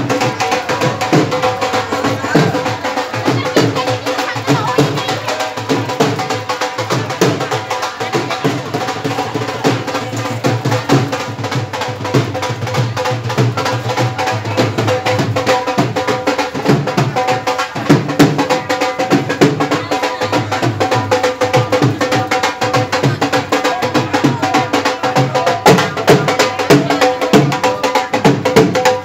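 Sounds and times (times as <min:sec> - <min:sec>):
crowd voices: 0:00.0 - 0:29.0
festive music with fast drumming: 0:00.0 - 0:29.0.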